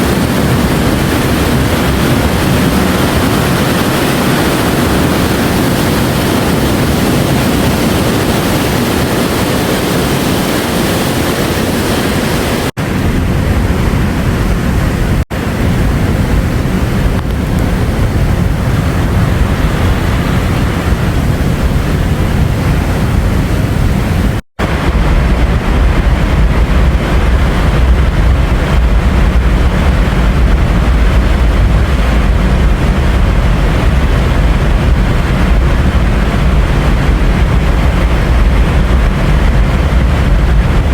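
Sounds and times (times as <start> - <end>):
ocean waves and surf: 0.0 - 40.9
wind rumble on microphone: 0.0 - 40.9.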